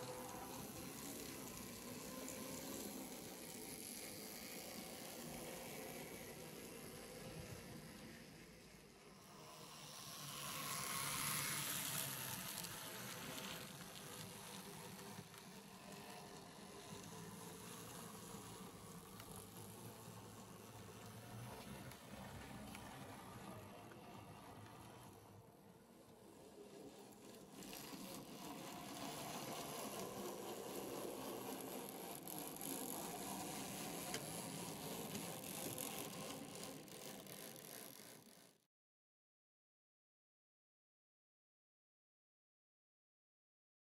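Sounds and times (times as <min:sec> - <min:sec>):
small wheels hissing on rail: 0:00.0 - 0:38.6.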